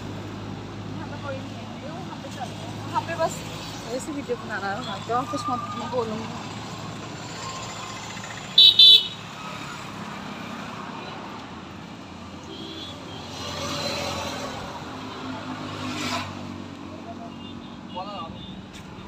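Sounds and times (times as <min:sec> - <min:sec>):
highway traffic: 0:00.0 - 0:19.0.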